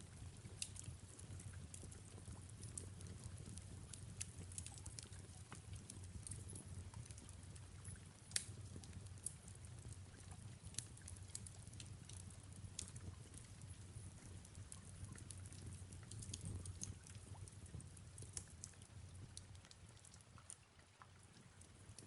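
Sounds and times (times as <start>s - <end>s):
fireplace crackling: 0.0s - 22.0s.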